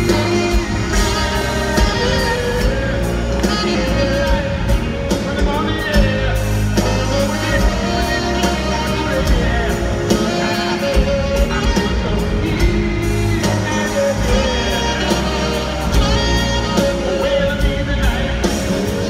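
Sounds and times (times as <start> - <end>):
live band music over loudspeakers: 0.0 - 19.0.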